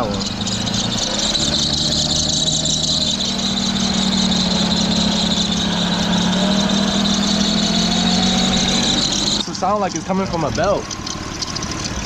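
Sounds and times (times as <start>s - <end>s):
car engine idling: 0.0s - 12.0s
high-pitched squeal: 0.0s - 12.0s.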